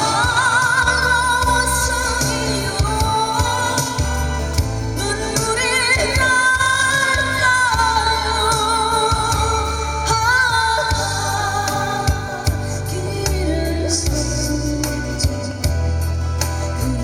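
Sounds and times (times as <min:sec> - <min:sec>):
backing track with bass line: 0:00.0 - 0:17.0
woman singing a ballad: 0:00.0 - 0:17.0.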